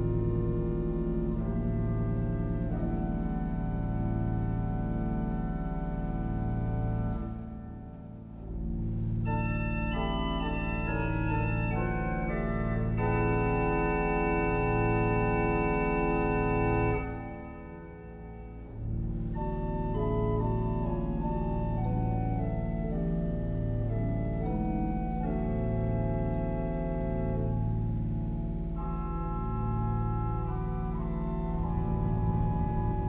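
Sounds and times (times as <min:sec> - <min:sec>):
organ playing sustained chords: 0:00.0 - 0:33.0.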